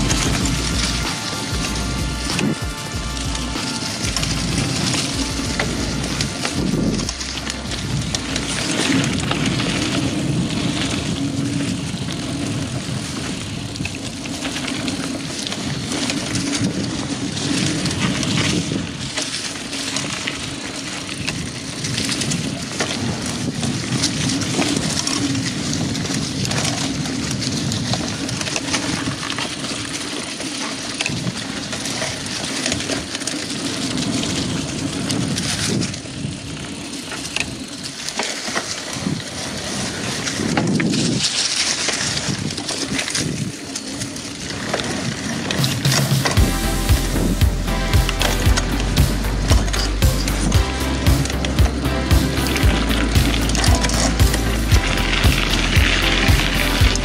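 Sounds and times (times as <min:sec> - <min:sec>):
bike clattering and rattling: 0:00.0 - 0:57.0
tyre and wind rush: 0:00.0 - 0:57.0.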